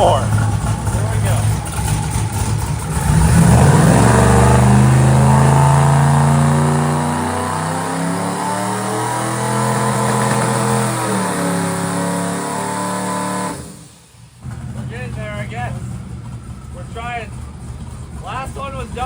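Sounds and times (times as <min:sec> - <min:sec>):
truck engine at high revs: 0:00.0 - 0:19.0.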